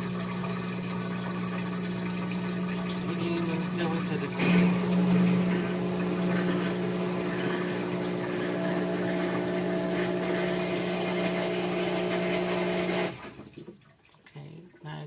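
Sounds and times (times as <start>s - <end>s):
washer drain pump humming: 0.0s - 15.0s
water rushing through pump: 0.0s - 15.0s.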